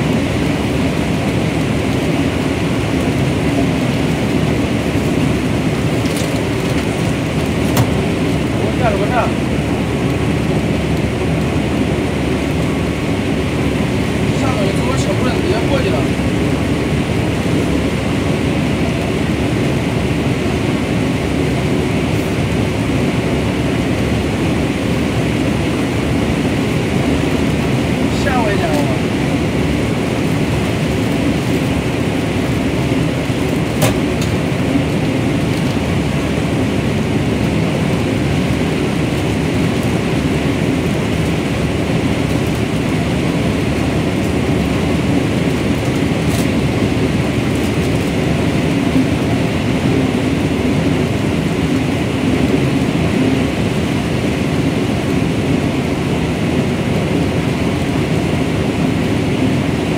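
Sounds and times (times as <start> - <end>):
corn harvester running: 0.0 - 59.9.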